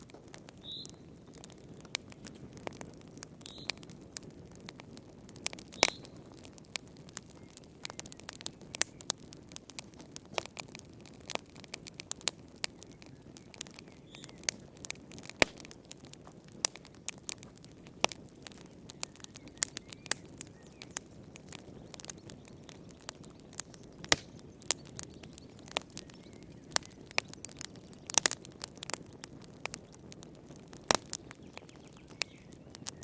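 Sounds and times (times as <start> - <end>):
soft rush of flames: 0.0 - 33.0
wood fire crackling and popping: 0.0 - 33.0.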